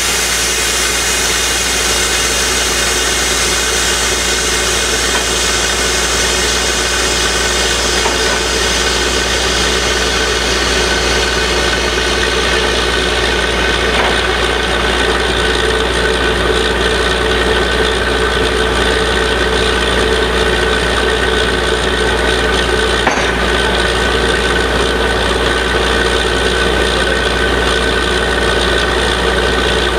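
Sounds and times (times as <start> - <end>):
drilling rig engine running: 0.0 - 29.9.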